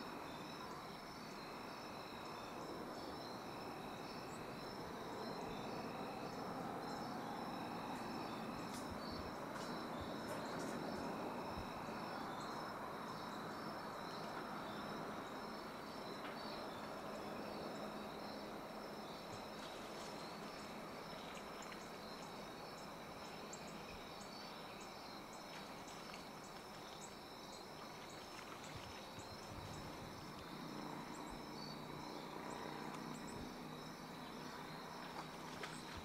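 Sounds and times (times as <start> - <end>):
insects trilling: 0.0 - 36.0
low steady hiss: 0.0 - 36.0.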